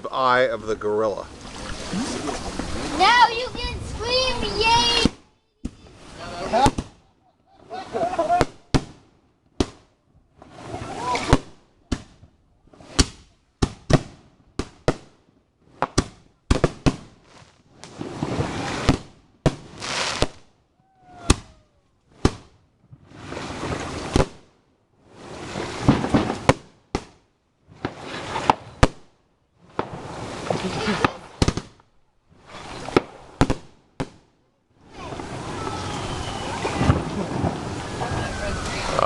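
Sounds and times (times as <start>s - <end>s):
fireworks hissing and crackling: 2.0s - 7.0s, 7.6s - 20.5s, 22.1s - 27.0s, 27.6s - 34.2s, 34.8s - 39.0s
fireworks bangs and pops: 3.6s - 7.1s, 7.9s - 20.6s, 21.2s - 39.0s.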